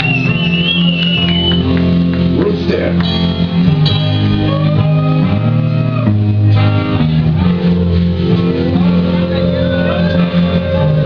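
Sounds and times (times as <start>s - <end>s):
electric guitar chords and slides: 0.0s - 11.0s
live rock band playing: 0.0s - 11.0s.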